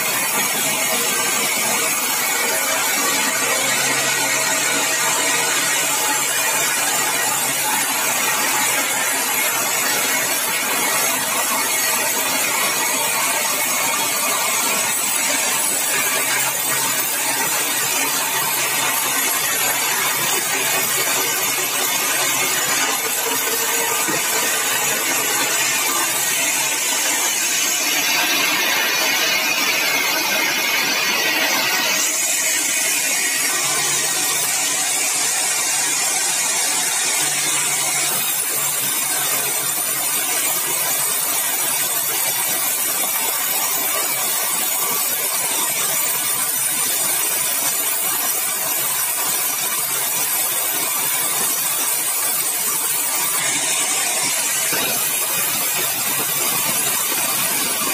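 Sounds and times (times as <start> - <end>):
sawmill saw cutting log: 0.0 - 57.9.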